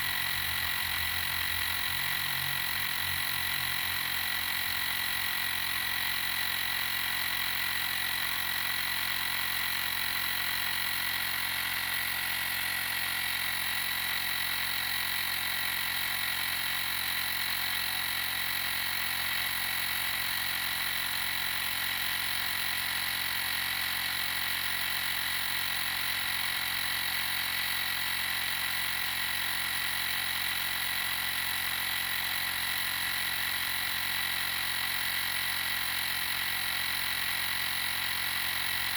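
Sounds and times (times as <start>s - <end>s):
tire inflator compressor running: 0.0s - 38.9s.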